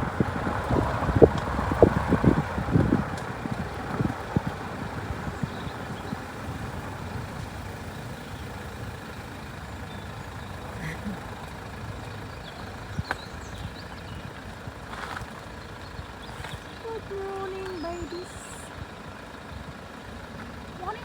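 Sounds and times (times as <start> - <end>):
vehicle running: 0.0 - 21.0.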